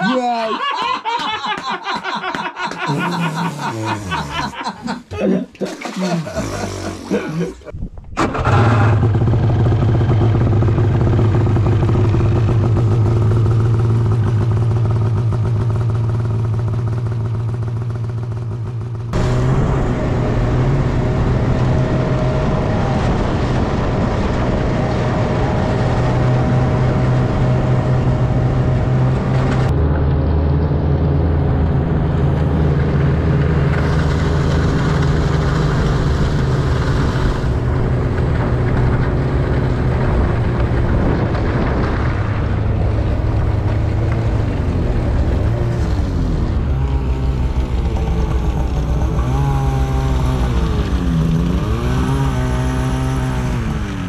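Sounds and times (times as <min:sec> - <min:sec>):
snowmobile engine running: 0:02.8 - 0:04.7, 0:05.8 - 0:54.0.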